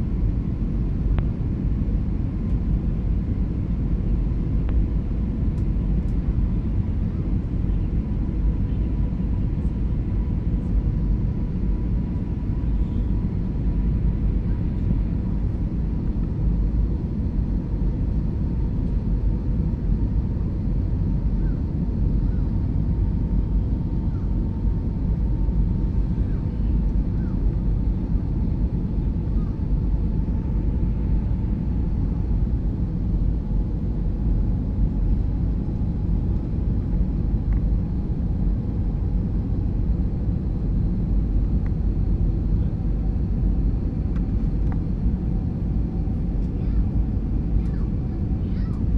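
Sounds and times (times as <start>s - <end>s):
faint steady whine: 0.0s - 48.9s
low rumble of engines and airflow: 0.0s - 48.9s.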